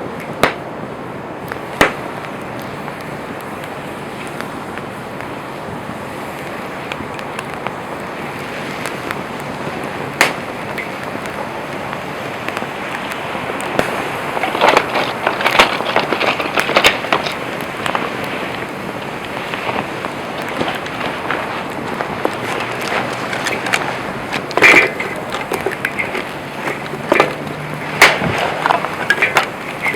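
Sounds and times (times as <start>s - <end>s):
campfire hissing: 0.0s - 29.9s
wood crackling and popping: 0.0s - 29.9s.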